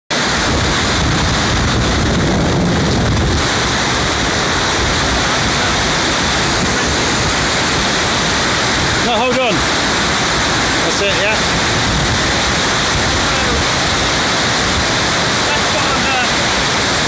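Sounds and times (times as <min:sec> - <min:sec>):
stream rushing over rocks: 0:00.1 - 0:17.0.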